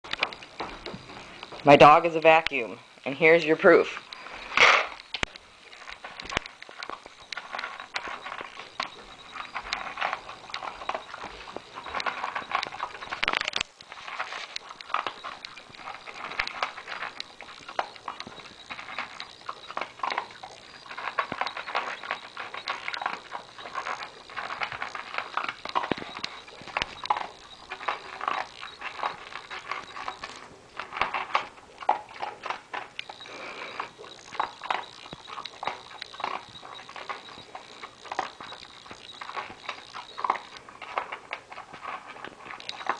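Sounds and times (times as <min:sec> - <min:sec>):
dog crunching kibble: 0:00.0 - 0:42.9
kibble clicking against bowl: 0:03.9 - 0:42.9.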